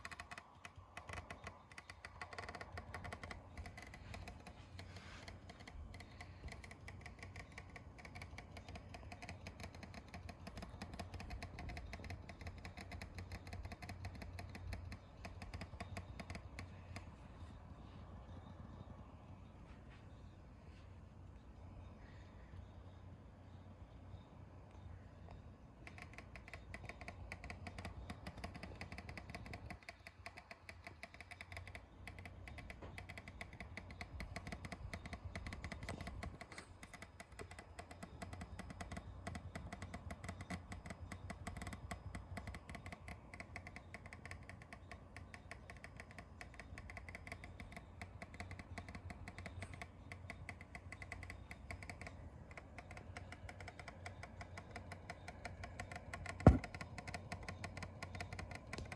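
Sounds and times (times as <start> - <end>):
hard disk drive clicking: 0.0 - 17.6, 25.3 - 58.9.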